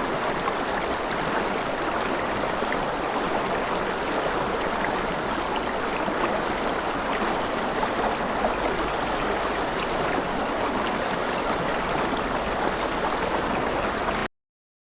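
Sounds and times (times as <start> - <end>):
river water flowing: 0.0 - 14.3.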